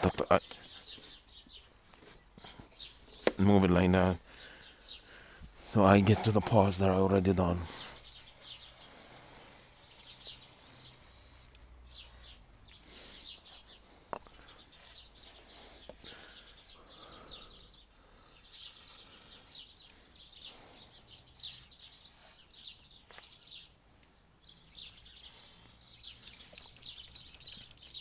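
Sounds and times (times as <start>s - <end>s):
faint outdoor background noise: 0.0s - 28.0s
small birds chirping: 0.0s - 28.0s.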